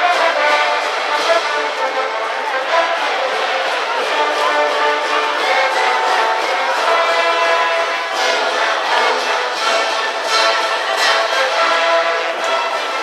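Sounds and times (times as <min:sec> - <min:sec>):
accented brass hits: 0:00.0 - 0:13.0
brass band playing a cheer tune: 0:00.0 - 0:13.0.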